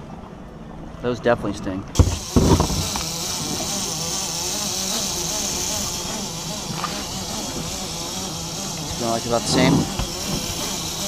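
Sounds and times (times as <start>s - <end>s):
boat engine humming: 0.0s - 11.0s
water and wind hiss: 1.5s - 11.0s.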